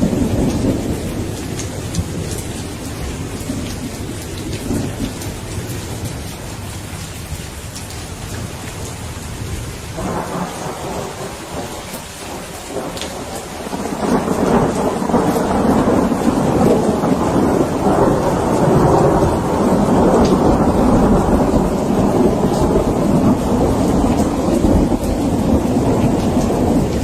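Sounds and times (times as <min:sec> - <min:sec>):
rain hissing: 0:00.0 - 0:27.0
thunder rumbling: 0:00.0 - 0:27.0.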